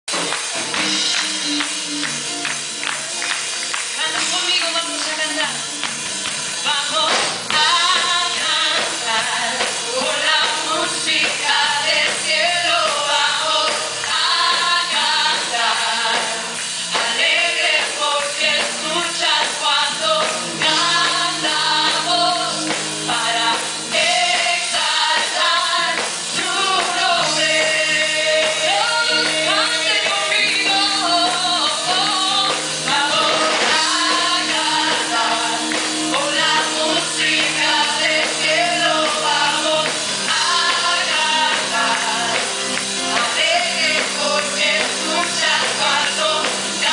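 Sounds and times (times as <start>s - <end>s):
backing singers: 0.9s - 46.9s
woman singing into a microphone: 6.6s - 46.9s.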